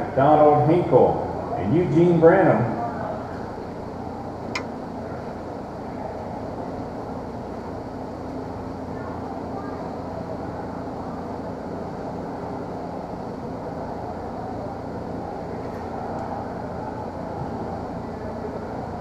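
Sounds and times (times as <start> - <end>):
indoor hall background rumble: 0.0 - 19.0.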